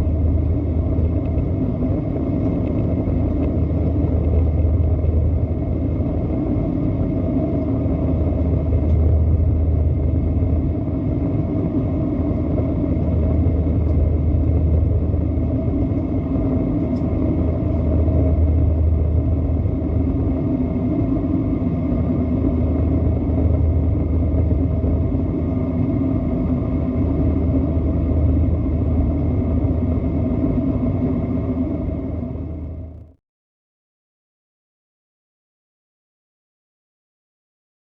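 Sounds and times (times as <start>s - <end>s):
aircraft low rumble: 0.0s - 33.2s
faint aircraft whine: 0.0s - 33.2s.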